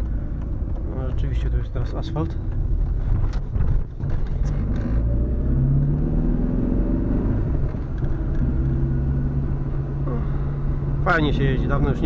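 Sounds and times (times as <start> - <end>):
car engine revving: 0.0 - 12.0
road and tyre rumble: 0.0 - 12.0.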